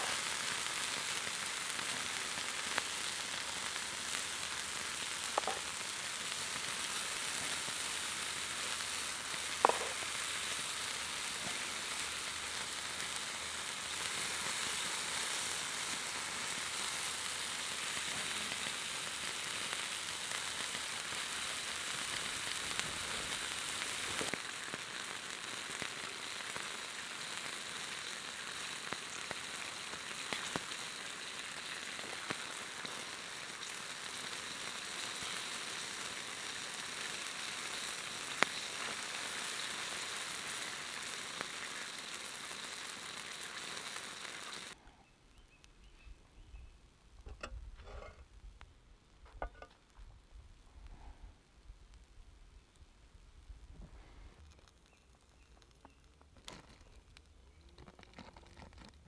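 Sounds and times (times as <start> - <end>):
food sizzling on hot stones: 0.0 - 45.5, 47.2 - 50.2, 51.7 - 59.0
sharp crackles: 0.0 - 45.9, 47.2 - 59.0.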